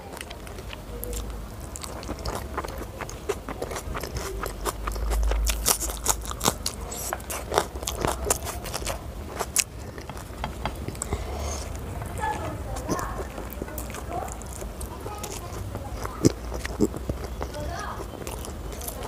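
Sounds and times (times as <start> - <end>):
chewing with wet mouth noises: 0.0 - 19.0
crisp crunching of chili: 0.0 - 19.0.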